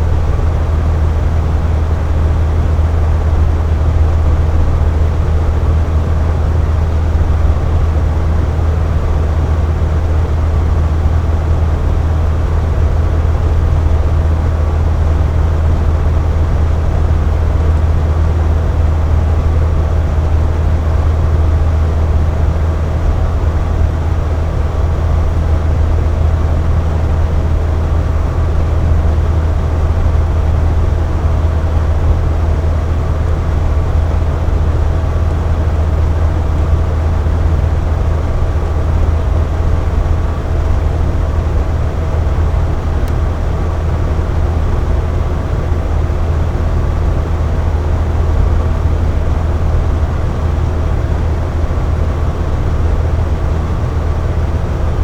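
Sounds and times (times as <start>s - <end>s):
air conditioner hum: 0.0s - 55.0s
fan air rushing: 0.0s - 55.0s.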